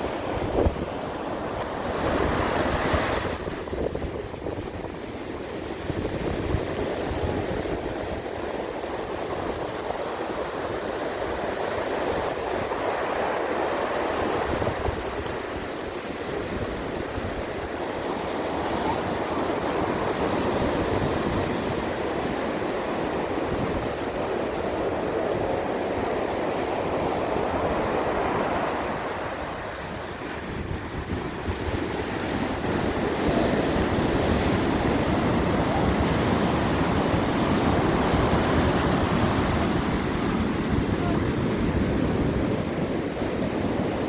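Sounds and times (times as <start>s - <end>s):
wind gusting over microphone: 0.0s - 13.4s, 14.0s - 44.0s
ocean surf washing in: 0.0s - 44.0s.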